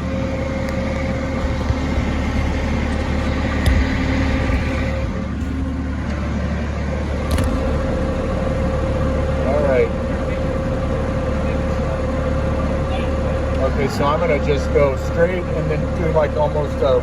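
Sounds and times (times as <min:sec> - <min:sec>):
forklift engine humming: 0:00.0 - 0:17.0.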